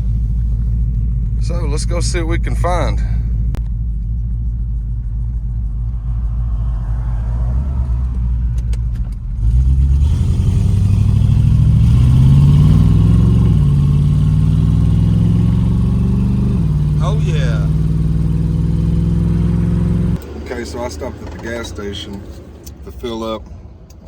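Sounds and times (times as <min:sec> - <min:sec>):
car engine rumbling and accelerating: 0:00.0 - 0:24.0.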